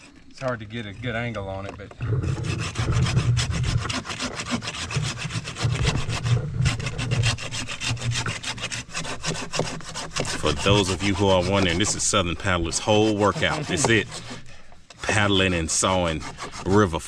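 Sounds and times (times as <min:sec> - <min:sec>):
hand saw cutting wood: 0:02.0 - 0:17.0.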